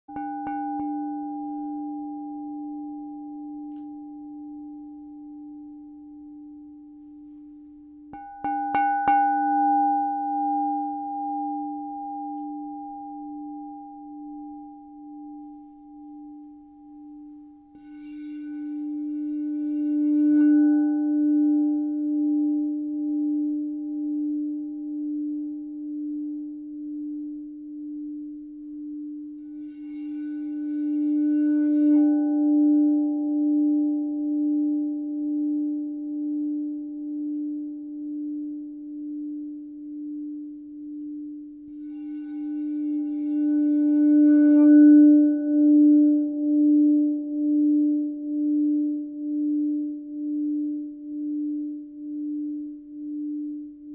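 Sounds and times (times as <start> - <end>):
singing bowl ringing: 0.1 - 7.4, 8.1 - 52.5.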